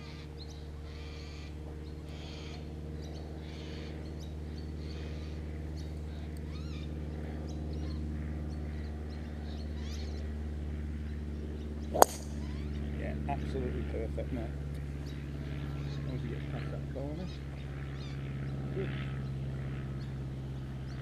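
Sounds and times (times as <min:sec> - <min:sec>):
birds chirping and calling: 0:00.0 - 0:10.4, 0:11.0 - 0:13.0, 0:14.8 - 0:21.0
steady low hum: 0:00.0 - 0:21.0.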